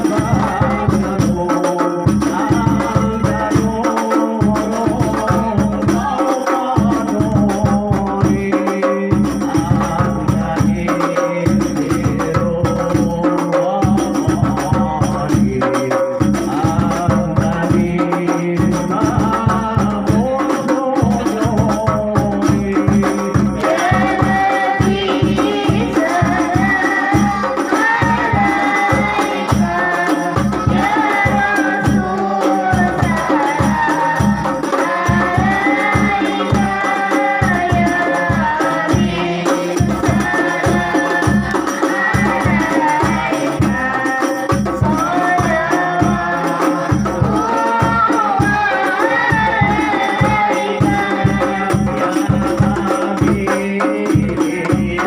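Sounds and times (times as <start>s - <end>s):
devotional group singing: 0.0s - 55.0s
hand drum beats: 0.0s - 55.0s.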